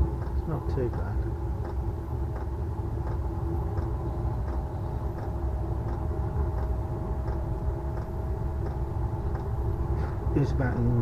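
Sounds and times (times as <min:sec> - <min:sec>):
fan hum: 0:00.0 - 0:11.0
heater exhaust low rumble: 0:00.0 - 0:11.0
faint ticks: 0:00.2 - 0:10.2.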